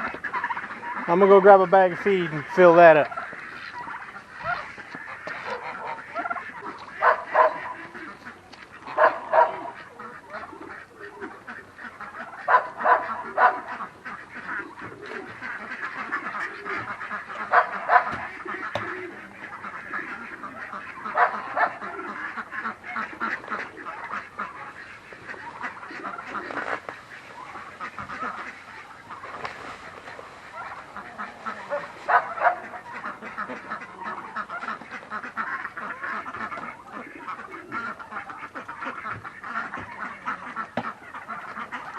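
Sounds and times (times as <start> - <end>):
duck honks and quacks: 0.0 - 29.6, 30.4 - 41.9
poultry chattering: 0.0 - 41.9.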